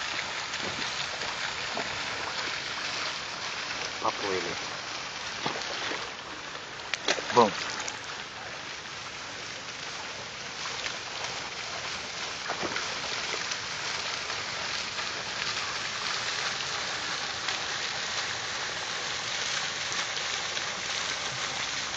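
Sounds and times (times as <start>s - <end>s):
fountain jets splashing into pool: 0.0s - 21.9s.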